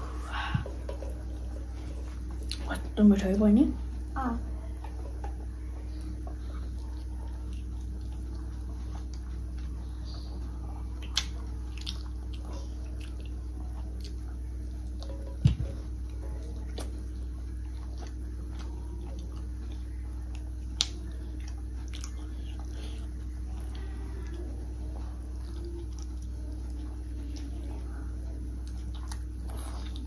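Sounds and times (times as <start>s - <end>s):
children chewing: 0.0s - 3.0s, 3.9s - 30.0s
low hum: 0.0s - 30.0s.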